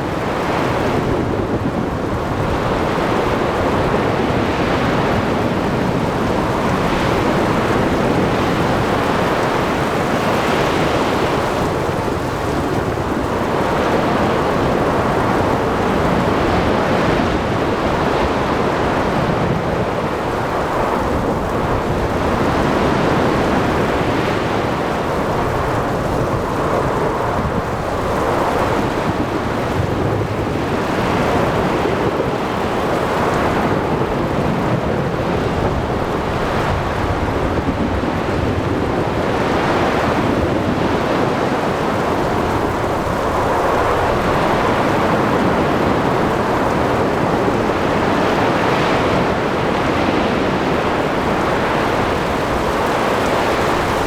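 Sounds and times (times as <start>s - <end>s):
rain: 0.0s - 54.0s
waves surging and breaking: 0.0s - 54.0s
wind: 0.0s - 54.0s.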